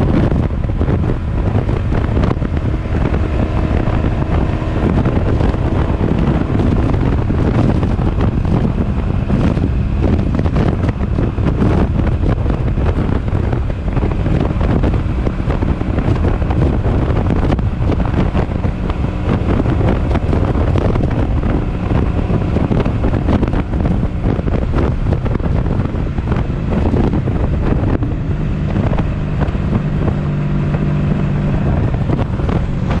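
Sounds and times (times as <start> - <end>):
motorcycle engine at speed: 0.0 - 33.0
wind buffeting microphone: 0.0 - 33.0.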